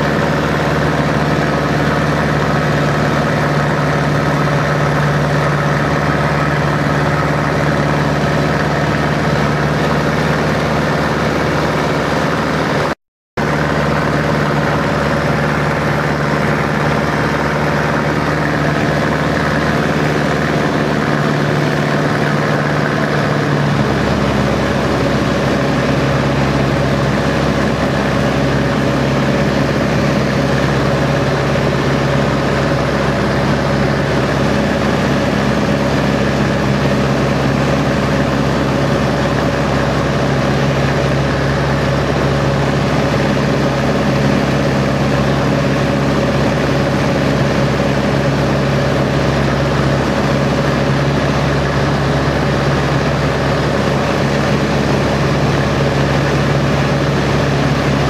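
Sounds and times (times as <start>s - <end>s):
aircraft engine running in flight: 0.0s - 58.0s.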